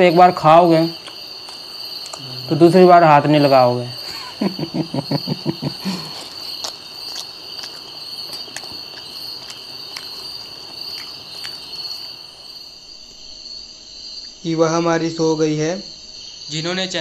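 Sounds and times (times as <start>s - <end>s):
high-pitched insect chirring: 0.0s - 17.0s.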